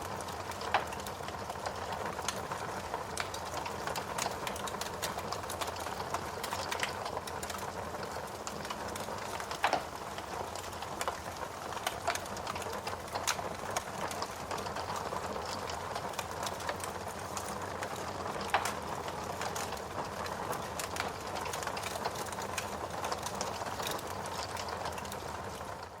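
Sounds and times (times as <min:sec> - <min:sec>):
fire crackling: 0:00.0 - 0:26.0
fire popping: 0:00.0 - 0:26.0.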